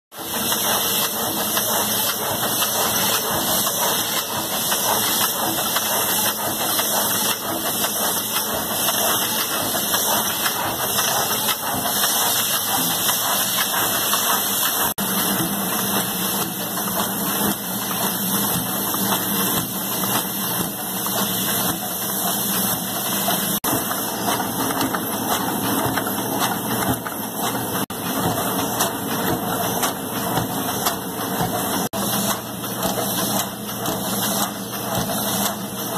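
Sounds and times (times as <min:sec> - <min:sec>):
machinery running: 0:00.1 - 0:35.9.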